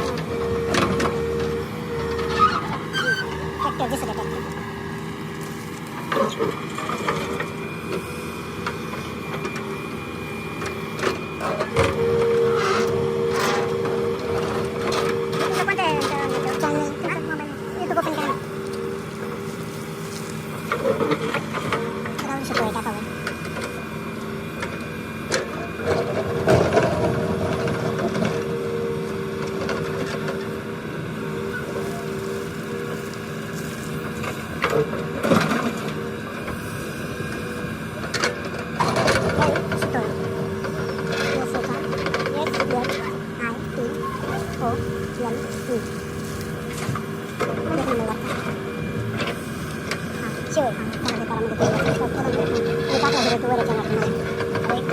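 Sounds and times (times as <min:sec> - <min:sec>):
heavy machinery diesel engine: 0:00.0 - 0:54.9
steady whine: 0:00.0 - 0:54.9.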